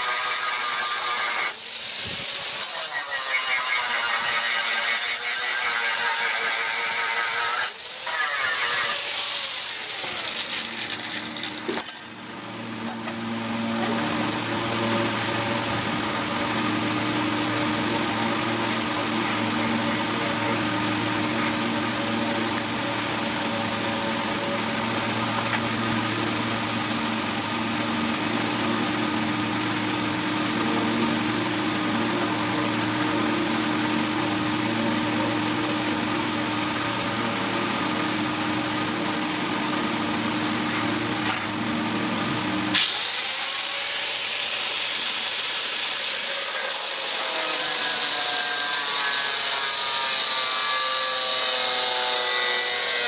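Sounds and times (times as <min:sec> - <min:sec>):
power tool motor humming: 0:00.0 - 0:13.4, 0:14.1 - 0:53.0.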